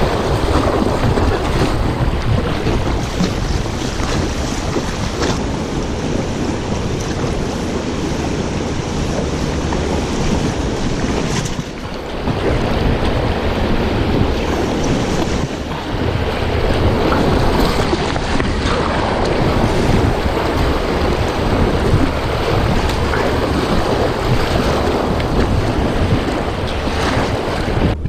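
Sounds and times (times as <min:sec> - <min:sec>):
river rapids rushing: 0:00.0 - 0:27.9
water splashing around boat: 0:00.0 - 0:28.0
wind buffeting microphone: 0:00.0 - 0:28.0.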